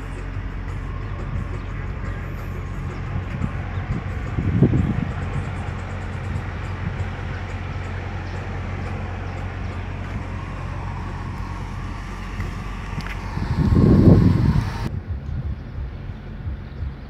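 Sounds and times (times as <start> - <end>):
diesel truck engine running: 0.0 - 17.0
low rumble: 0.0 - 17.0.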